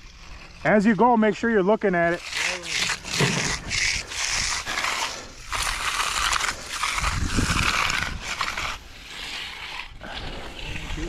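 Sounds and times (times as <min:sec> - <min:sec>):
tools scraping wet concrete: 0:00.0 - 0:11.0.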